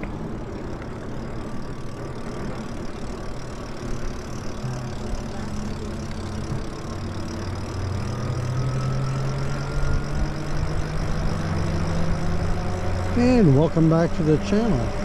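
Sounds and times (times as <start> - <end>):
electric bike drive hum: 0.0 - 15.0
faint rising whine: 0.0 - 15.0.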